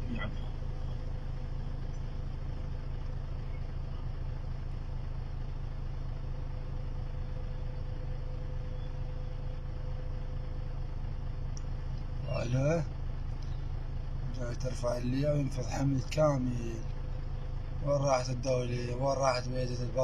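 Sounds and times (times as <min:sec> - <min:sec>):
car driving low rumble: 0:00.0 - 0:20.0
faint steady hum: 0:00.0 - 0:20.0.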